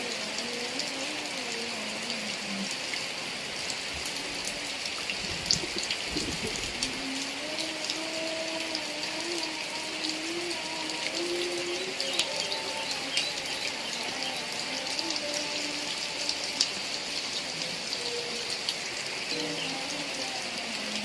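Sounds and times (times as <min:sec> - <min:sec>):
heavy rain: 0:00.0 - 0:21.0
running gurgling water: 0:00.0 - 0:21.0.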